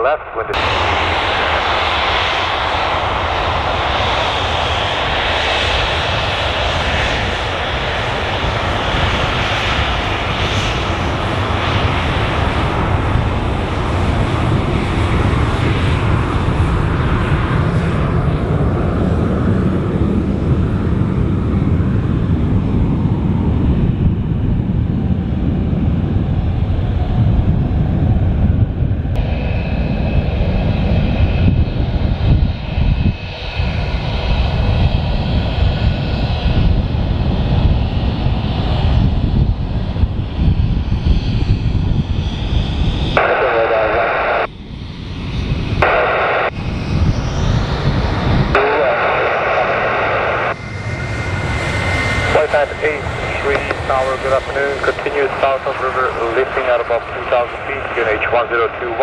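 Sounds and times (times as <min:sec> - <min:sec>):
jet engines taxiing: 0:00.0 - 0:59.0.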